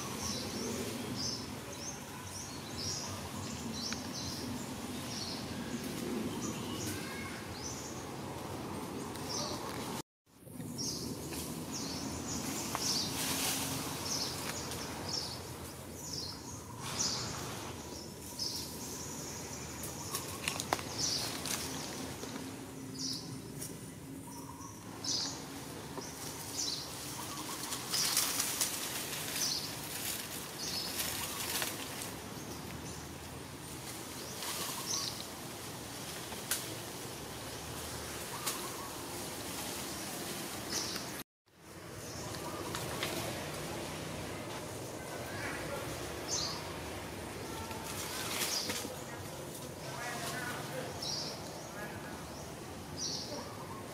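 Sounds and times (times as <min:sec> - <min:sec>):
leaves and branches rustling: 0:00.0 - 0:53.9.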